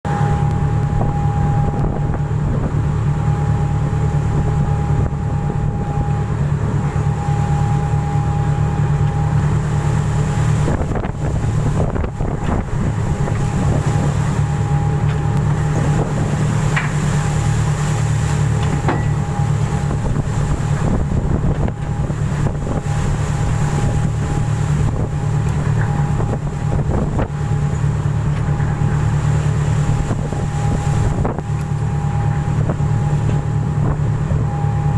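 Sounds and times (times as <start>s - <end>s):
ship engine hum: 0.0s - 34.9s
wind on microphone: 0.1s - 7.1s, 9.4s - 34.9s.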